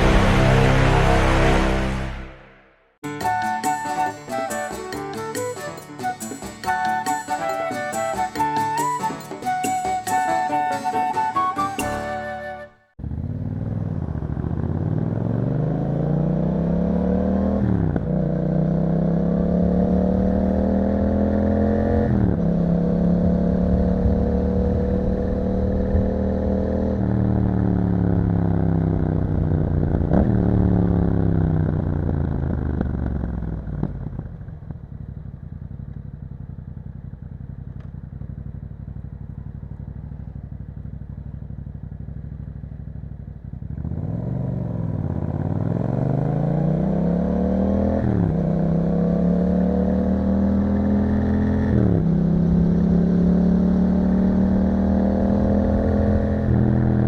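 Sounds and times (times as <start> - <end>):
motorcycle engine accelerating: 0.0 - 2.9, 13.0 - 57.0.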